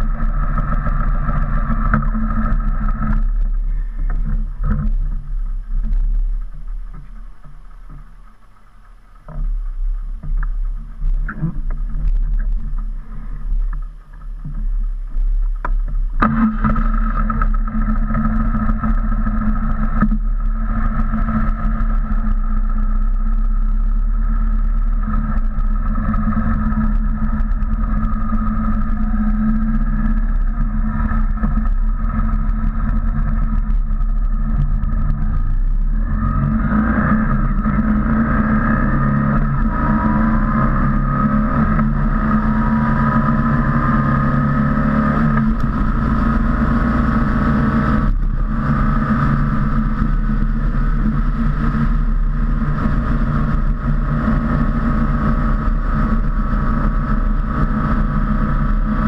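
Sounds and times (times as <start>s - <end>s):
gusty noise: 0.0s - 59.0s
motorcycle engine idling: 0.0s - 59.0s.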